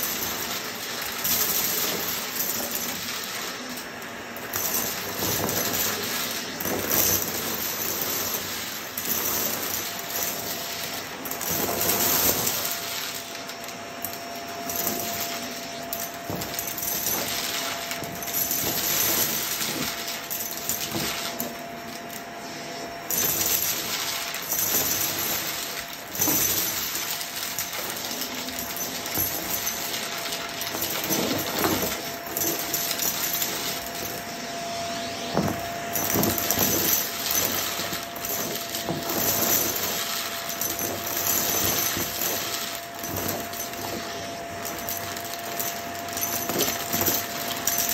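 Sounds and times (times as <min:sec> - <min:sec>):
debris crackling and rattling: 0:00.0 - 0:22.2, 0:23.0 - 0:34.3, 0:35.3 - 0:47.9
vacuum cleaner whining: 0:00.0 - 0:47.9.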